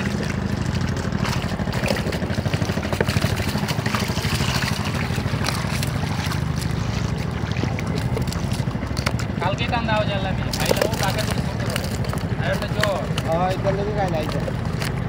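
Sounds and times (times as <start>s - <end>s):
engine running: 0.0s - 15.0s
water splashing: 0.0s - 15.0s.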